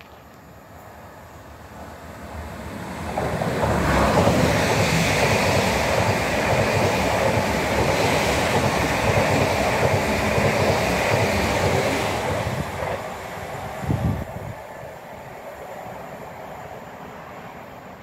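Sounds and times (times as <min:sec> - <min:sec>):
train wheels rushing on rails: 0:00.0 - 0:18.0.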